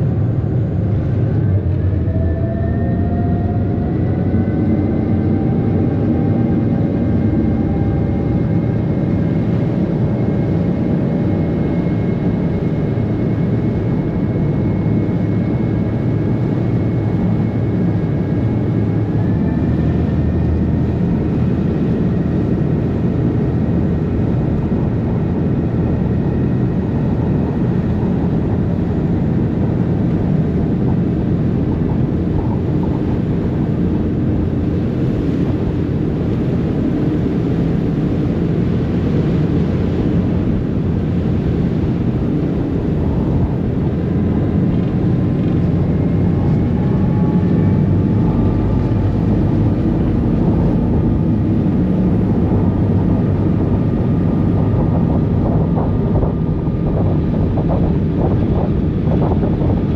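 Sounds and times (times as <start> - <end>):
ferry engines droning: 0.0 - 59.9.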